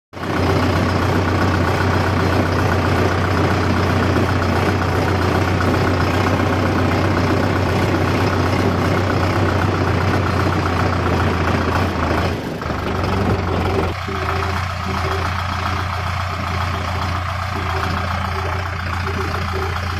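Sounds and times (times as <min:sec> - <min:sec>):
farm machinery engine running: 0:00.2 - 0:19.9.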